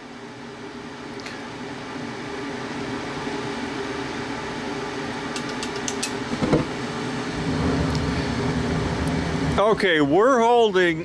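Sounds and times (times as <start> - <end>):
furnace fan humming: 0.0 - 11.0
burner igniting and rumbling: 1.7 - 11.0.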